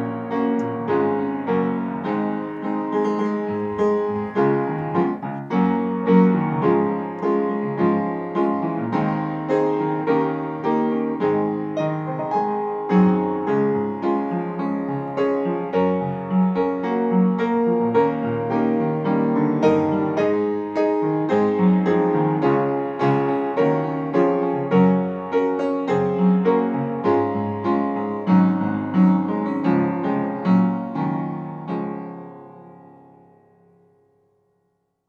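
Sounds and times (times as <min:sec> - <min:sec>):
solo piano music: 0:00.0 - 0:35.0.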